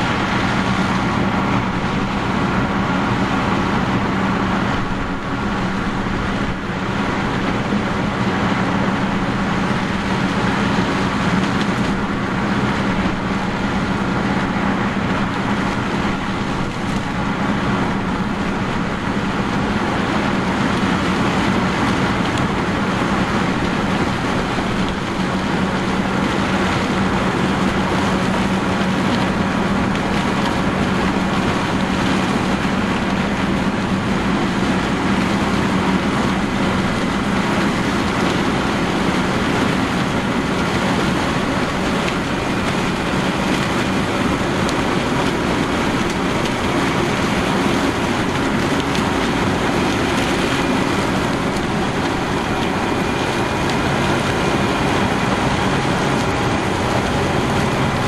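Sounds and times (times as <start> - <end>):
dense mechanical noise: 0.0 - 58.0
diesel engine humming: 0.0 - 58.0.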